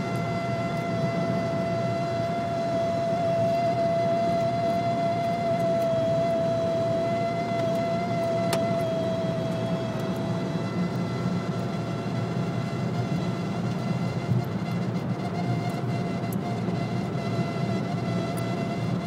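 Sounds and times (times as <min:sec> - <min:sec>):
cabin road and wind noise: 0:00.0 - 0:19.0.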